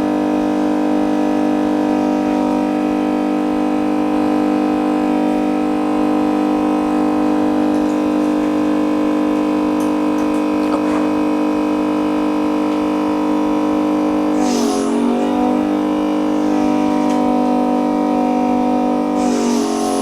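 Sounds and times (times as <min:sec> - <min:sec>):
vacuum pump humming: 0:00.0 - 0:20.0.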